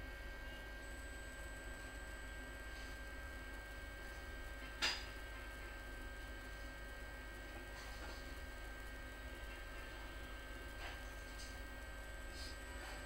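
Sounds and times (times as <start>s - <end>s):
faint thin whining tones: 0.0s - 13.0s
low electrical hum: 0.0s - 13.0s.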